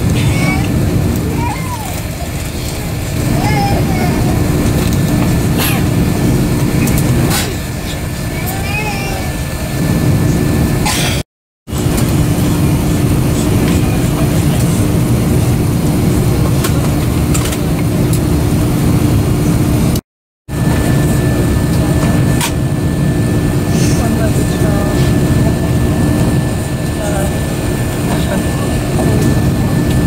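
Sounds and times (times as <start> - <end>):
aircraft cabin ventilation hum: 0.0 - 11.2, 11.8 - 20.0, 20.6 - 30.0.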